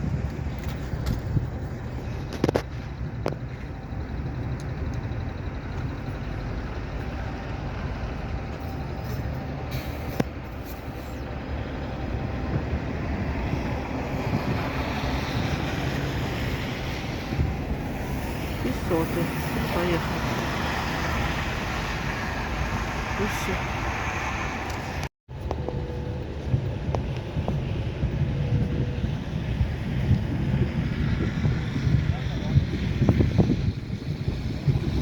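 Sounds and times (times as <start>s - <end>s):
heavy vehicle engine rumbling: 0.0s - 35.0s.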